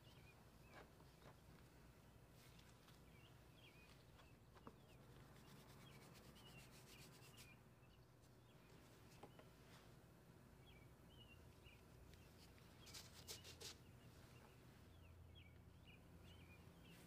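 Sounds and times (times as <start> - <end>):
small birds chirping: 0.0 - 10.0, 10.6 - 17.0.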